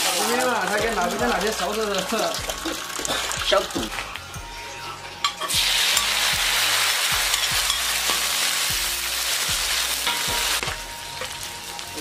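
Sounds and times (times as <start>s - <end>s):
food sizzling in a pan: 0.0s - 4.2s, 5.2s - 12.0s.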